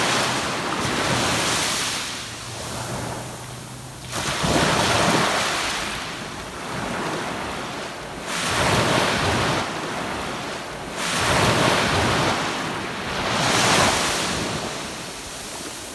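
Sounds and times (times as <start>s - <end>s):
waves breaking on beach: 0.0s - 15.9s.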